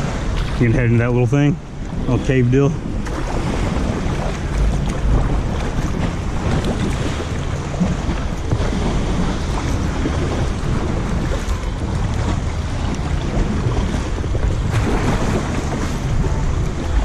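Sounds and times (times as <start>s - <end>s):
water lapping: 0.0s - 17.0s
wind buffeting microphone: 0.0s - 17.0s.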